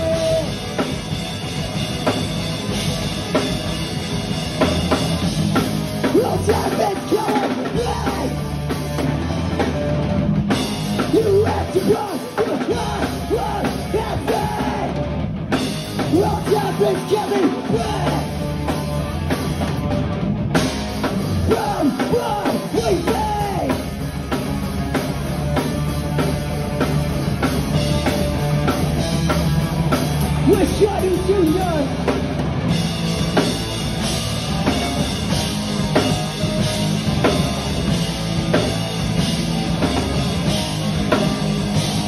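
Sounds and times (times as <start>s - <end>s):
punk band playing live: 0.0s - 42.0s.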